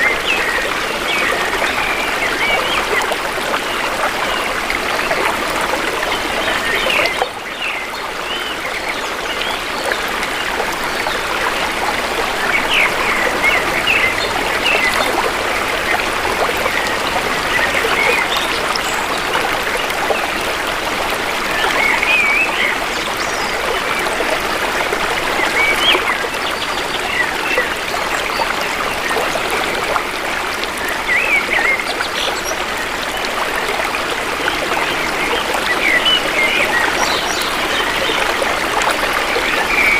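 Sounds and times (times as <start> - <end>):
shallow river flowing: 0.0 - 39.9.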